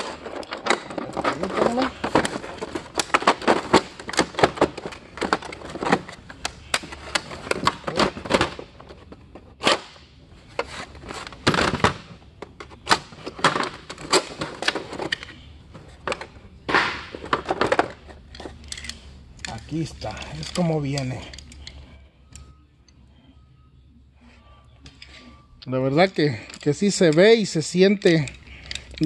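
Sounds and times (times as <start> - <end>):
wrenches clacking and rattling: 0.0 - 16.4, 17.1 - 22.5, 26.0 - 29.0.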